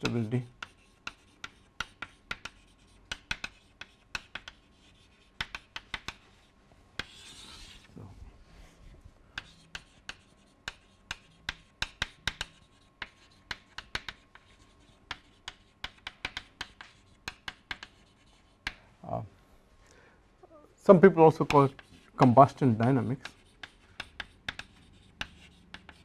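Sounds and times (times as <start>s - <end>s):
chalk tapping and scratching: 0.0s - 7.9s, 8.6s - 18.8s, 21.1s - 26.0s
soft chalk hiss: 0.0s - 19.2s, 20.9s - 26.0s.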